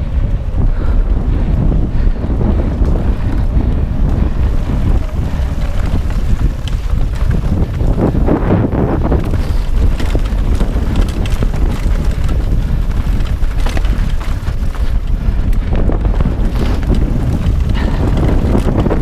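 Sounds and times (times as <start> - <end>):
bike clicks and rattles: 0.0 - 19.0
wind buffeting microphone: 0.0 - 19.0.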